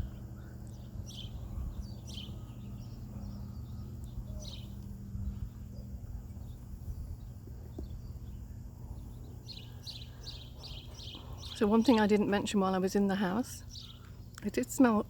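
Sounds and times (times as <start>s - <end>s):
bird chirps: 0.0s - 12.1s, 13.6s - 14.5s
distant road traffic rumble: 0.0s - 15.0s.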